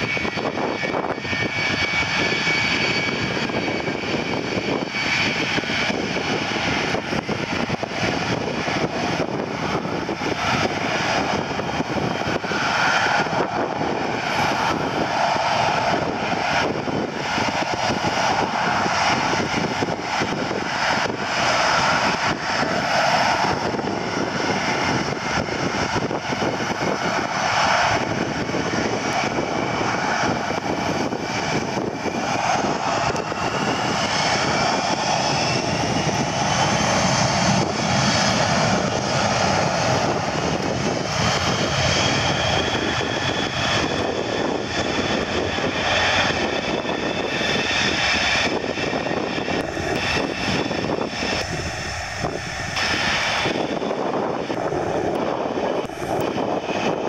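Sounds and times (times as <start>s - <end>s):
jet engines roaring: 0.0s - 57.0s
rising engine whine: 0.0s - 57.0s.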